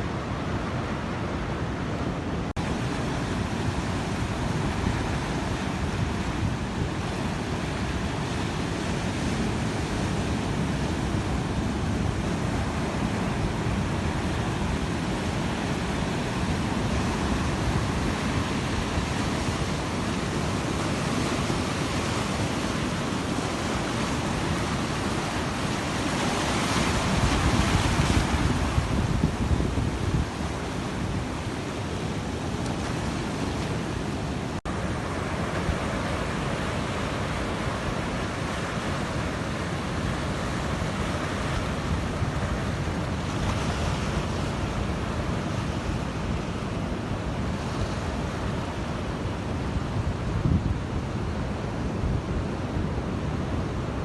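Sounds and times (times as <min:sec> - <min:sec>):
surf breaking on a beach: 0:00.0 - 0:54.0
wind buffeting microphone: 0:00.0 - 0:54.0.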